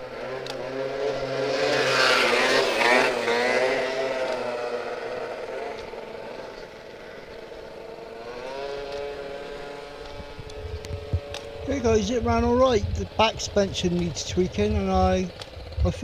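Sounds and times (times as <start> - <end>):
small engine whining at high revs: 0.0 - 16.0.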